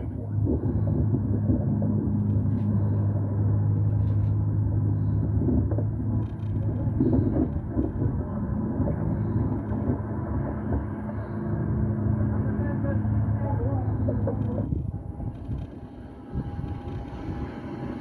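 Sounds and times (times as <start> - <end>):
constant hum: 0.0 - 18.0
low vehicle rumble: 0.0 - 18.0.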